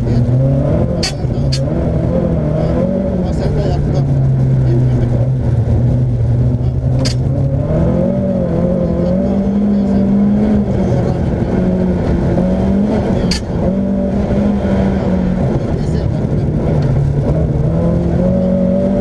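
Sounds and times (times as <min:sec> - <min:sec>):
car engine under hard throttle: 0:00.0 - 0:19.0.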